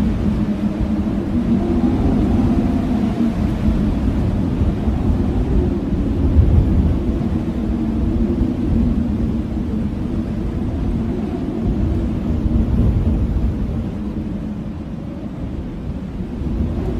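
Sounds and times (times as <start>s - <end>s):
blizzard wind howling: 0.0s - 16.9s.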